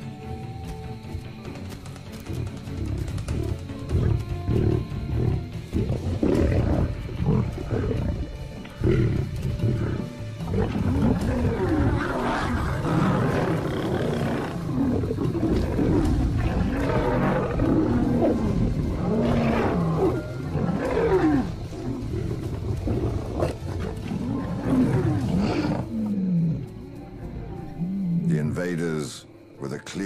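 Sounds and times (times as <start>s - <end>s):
lions fighting: 1.8s - 28.4s.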